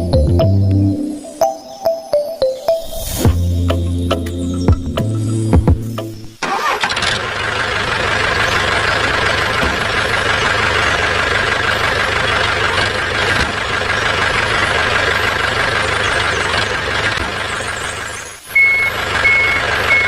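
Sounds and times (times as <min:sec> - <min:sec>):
tractor engine running: 0:03.4 - 0:20.0.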